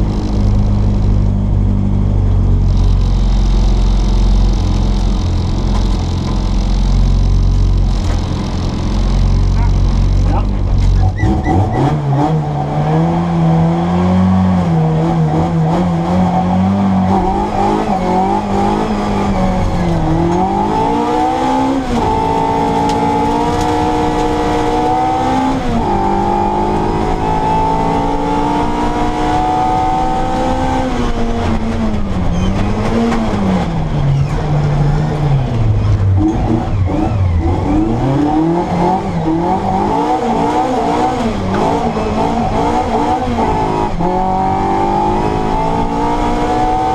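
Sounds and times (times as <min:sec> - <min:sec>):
car engine revving hard: 0:06.2 - 0:46.9.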